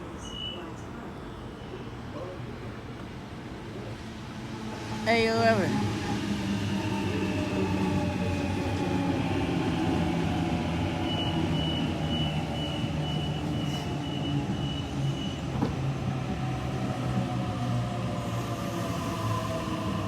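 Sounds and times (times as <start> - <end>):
electric train humming: 3.7 - 20.0.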